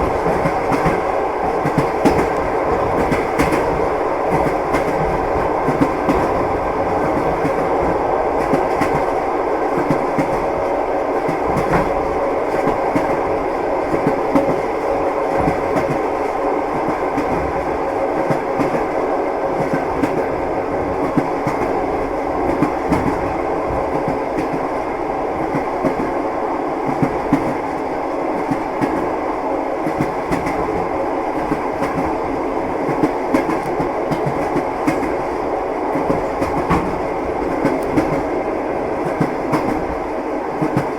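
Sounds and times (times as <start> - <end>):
train wheels clattering on rails: 0.0 - 26.2, 26.8 - 29.2, 29.8 - 40.9.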